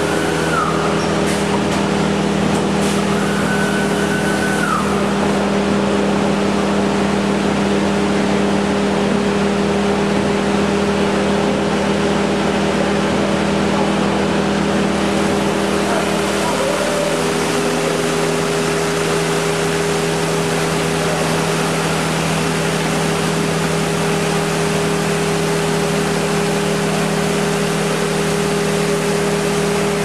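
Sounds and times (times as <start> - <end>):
high machine whine: 0.0 - 30.0
machine spindle humming: 0.0 - 30.0.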